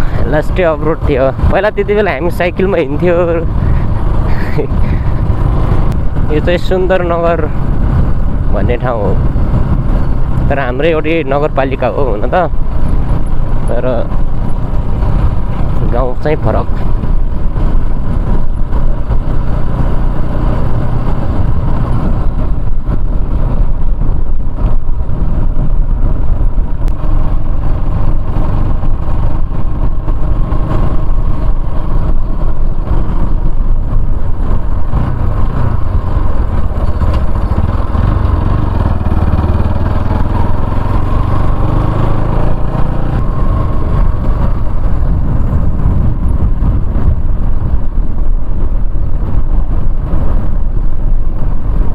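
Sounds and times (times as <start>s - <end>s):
loud low rush: 0.0s - 51.9s
motorcycle engine running: 0.0s - 51.9s.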